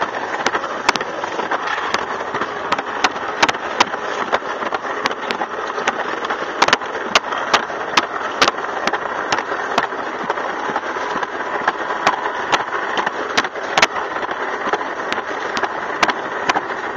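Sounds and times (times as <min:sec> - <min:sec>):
sharp clacks of sled track: 0:00.0 - 0:16.9
sled rushing rumble: 0:00.0 - 0:16.9.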